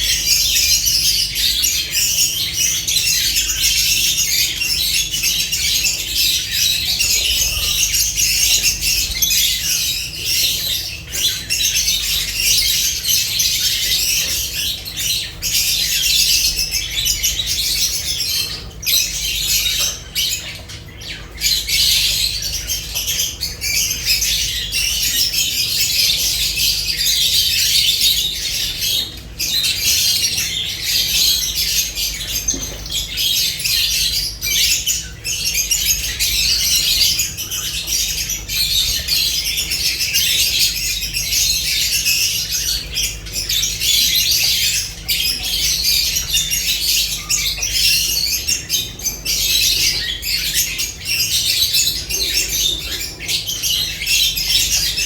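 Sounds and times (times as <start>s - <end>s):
birds chattering and squawking: 0.0s - 55.0s.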